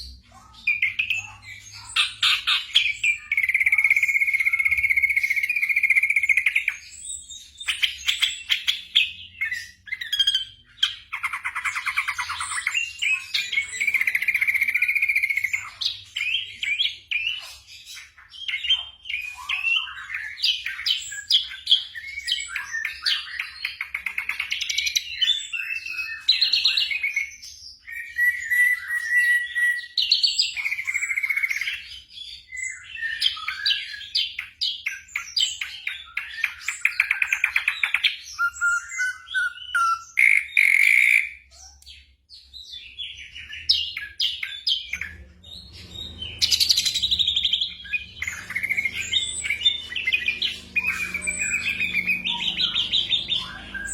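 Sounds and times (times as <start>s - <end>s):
bird song with whistles and trills: 0.0s - 53.9s.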